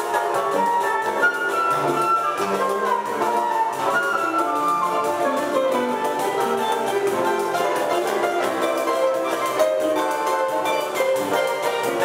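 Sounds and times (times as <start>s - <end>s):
flute: 0.0s - 12.0s
mandolin melody: 0.0s - 12.0s
rhythmic accompaniment: 0.0s - 12.0s.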